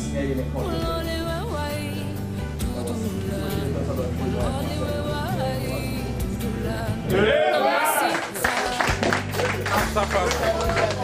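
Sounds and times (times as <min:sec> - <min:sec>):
song with sung melody: 0:00.0 - 0:11.0.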